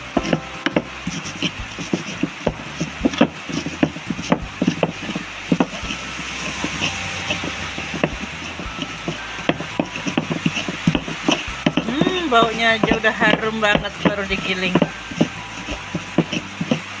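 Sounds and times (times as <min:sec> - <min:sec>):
heavy rain hiss: 0:00.0 - 0:17.0
stone pestle grinding in mortar: 0:00.0 - 0:17.0.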